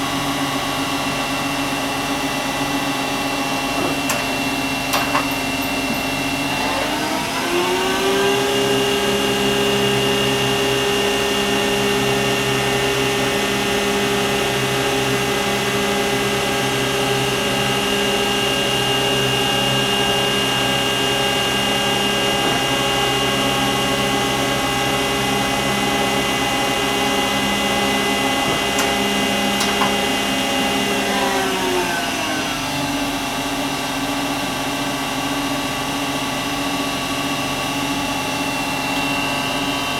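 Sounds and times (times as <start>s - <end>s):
lathe spindle whine: 0.0s - 39.9s.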